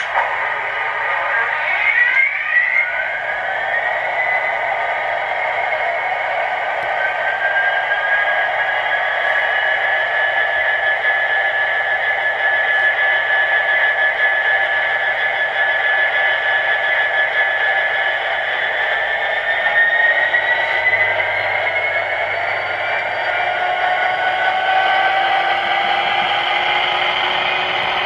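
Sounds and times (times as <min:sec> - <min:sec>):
engine whine: 0:00.0 - 0:28.0
model locomotive engine sound: 0:00.0 - 0:28.0.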